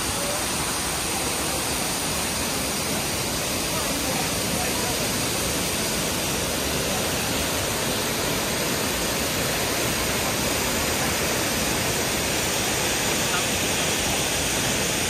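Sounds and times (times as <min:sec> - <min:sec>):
waterfall rushing into a pool: 0:00.0 - 0:15.0.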